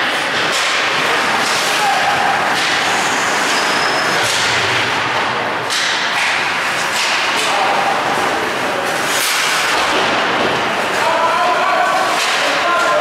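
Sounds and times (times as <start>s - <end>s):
hockey sticks and puck clacking: 0.0s - 13.0s.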